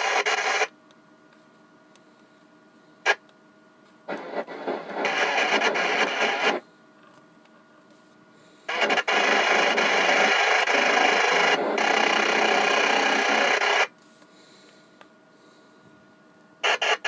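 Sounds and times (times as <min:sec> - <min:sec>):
radio static hiss: 0:00.0 - 0:01.5, 0:02.1 - 0:03.3, 0:03.9 - 0:15.7, 0:16.6 - 0:17.0.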